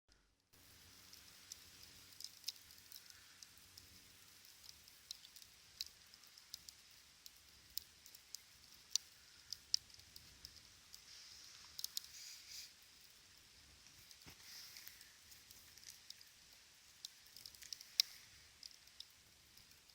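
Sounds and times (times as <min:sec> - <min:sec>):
campfire crackling: 0:00.5 - 0:19.9.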